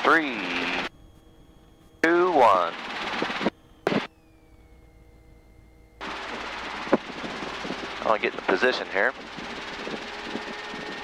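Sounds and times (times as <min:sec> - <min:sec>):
faint helicopter hum: 0:00.0 - 0:11.0
faint steady tones: 0:00.0 - 0:11.0
high whine dropping in pitch: 0:00.0 - 0:11.0.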